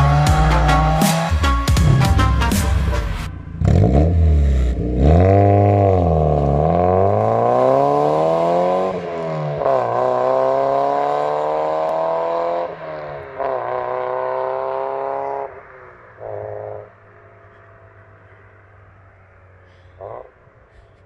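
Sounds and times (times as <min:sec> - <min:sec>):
car engine revving and accelerating: 0:00.0 - 0:20.6.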